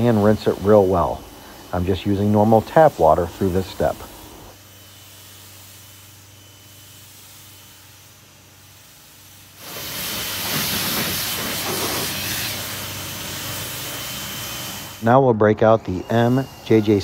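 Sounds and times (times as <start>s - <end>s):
hose spraying water: 0.0s - 17.0s.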